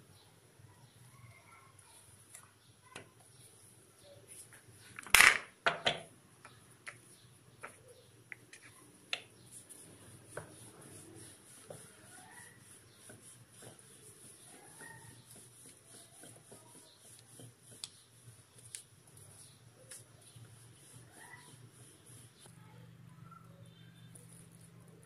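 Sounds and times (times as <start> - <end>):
light taps and clicks of dough handling: 1.8 - 25.0.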